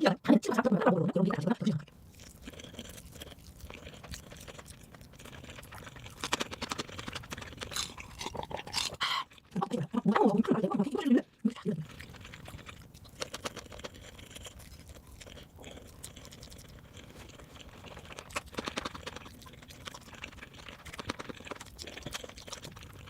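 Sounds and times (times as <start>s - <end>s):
person chewing and biting food: 1.6s - 9.5s, 11.7s - 23.0s.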